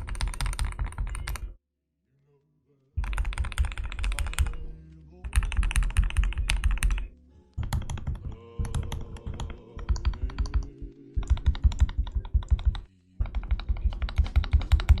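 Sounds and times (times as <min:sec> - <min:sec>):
fast typing on mechanical keyboard: 0:00.0 - 0:01.5, 0:03.0 - 0:04.6, 0:05.3 - 0:07.0, 0:07.6 - 0:15.0.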